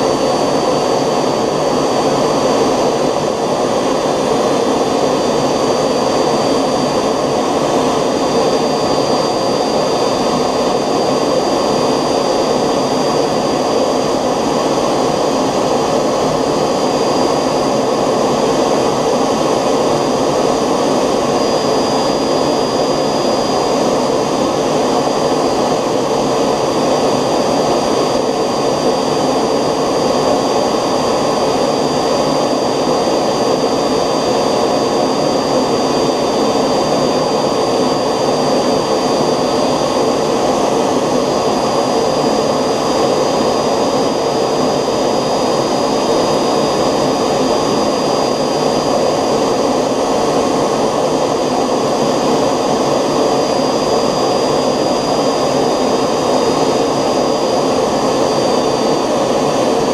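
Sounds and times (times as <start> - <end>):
model jet engine running: 0.0 - 59.9
thin high whine: 0.0 - 59.9.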